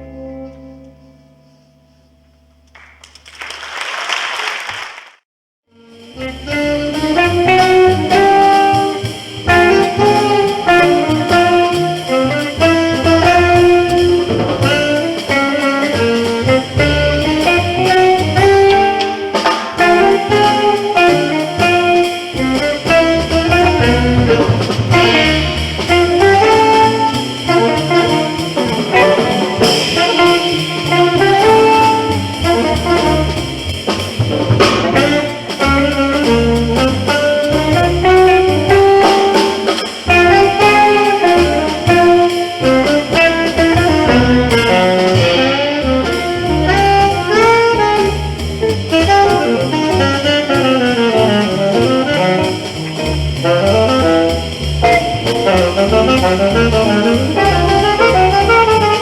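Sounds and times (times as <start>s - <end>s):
bass: 0.0s - 4.0s, 5.7s - 59.0s
horn playing melody: 5.7s - 59.0s
drum kit: 5.8s - 59.0s.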